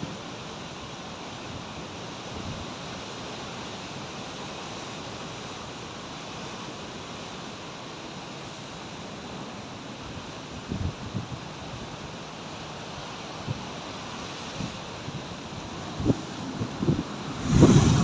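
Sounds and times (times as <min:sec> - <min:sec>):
sea waves breaking on shore: 0:00.0 - 0:18.0.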